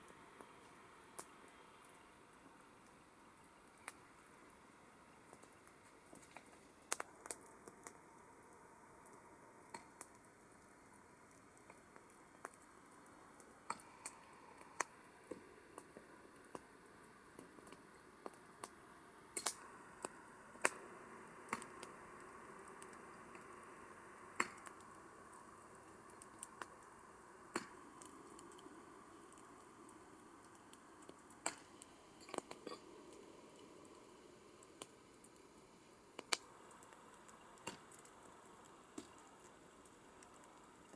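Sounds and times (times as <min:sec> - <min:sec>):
campfire crackling: 0:00.0 - 0:40.9
faint steady hiss: 0:00.0 - 0:40.9.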